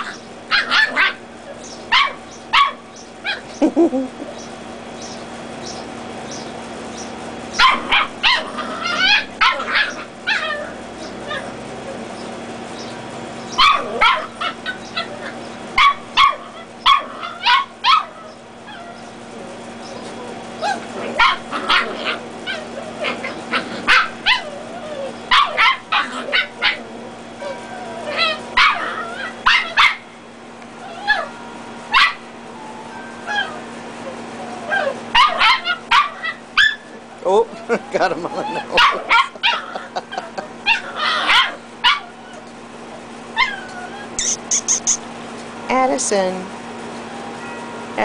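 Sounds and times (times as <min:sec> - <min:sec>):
puppies yipping and barking: 0:00.0 - 0:45.2, 0:46.8 - 0:47.9.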